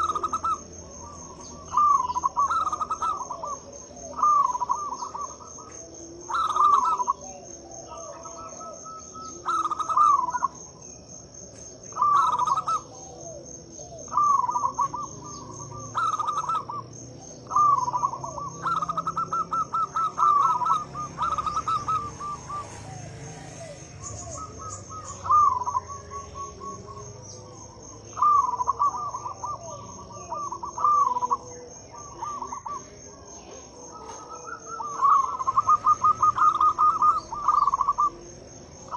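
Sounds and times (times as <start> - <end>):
dove cooing: 0.0 - 38.9
high-pitched insect chirr: 0.0 - 38.9.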